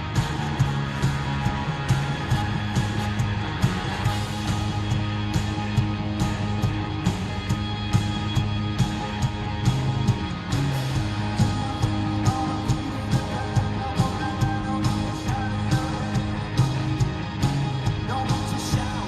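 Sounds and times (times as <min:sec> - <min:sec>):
bass guitar: 0:00.0 - 0:19.0
electric guitars: 0:00.0 - 0:19.0.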